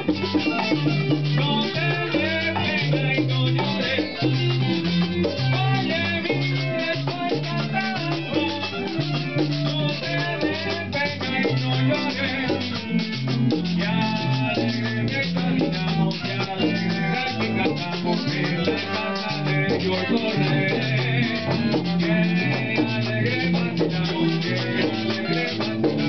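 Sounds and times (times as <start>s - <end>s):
guiro scraped in rhythm: 0.0s - 26.0s
man singing into a microphone: 0.0s - 26.0s
strummed plucked strings: 0.0s - 26.0s.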